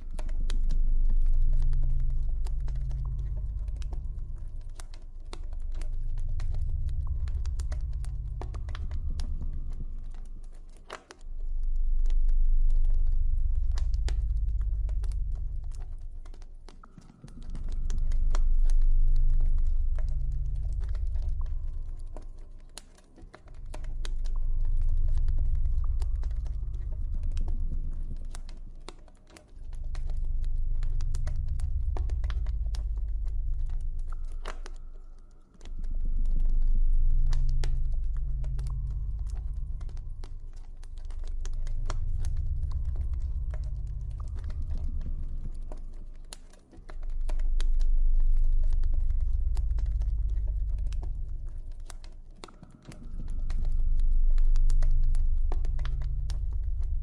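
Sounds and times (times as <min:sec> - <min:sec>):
deep ambient drone: 0:00.0 - 0:57.0.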